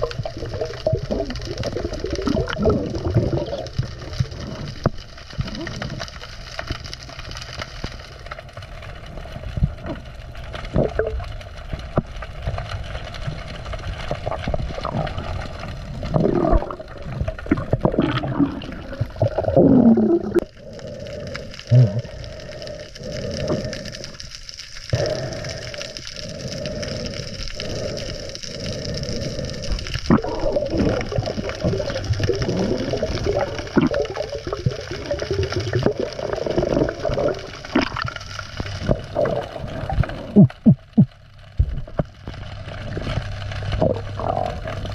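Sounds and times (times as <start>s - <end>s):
water bubbling: 0.0s - 11.4s, 12.4s - 44.9s
water gurgling and sloshing: 0.0s - 44.9s.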